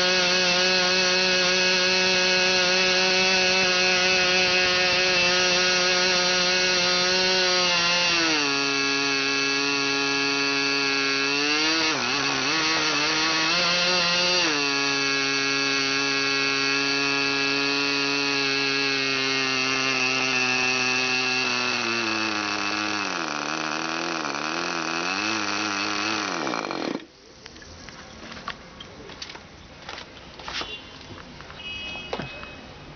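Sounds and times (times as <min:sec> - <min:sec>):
model glow engine running: 0:00.0 - 0:27.1.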